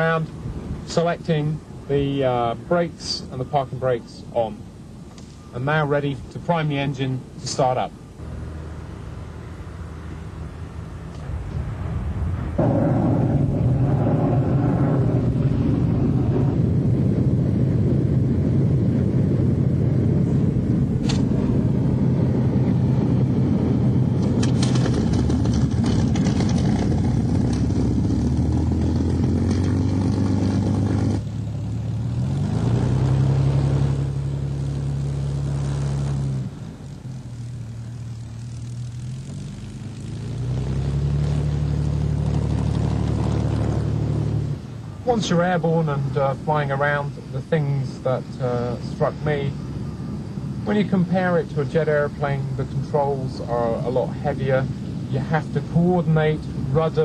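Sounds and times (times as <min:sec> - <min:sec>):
piston aircraft engine drone: 0:00.0 - 0:57.0.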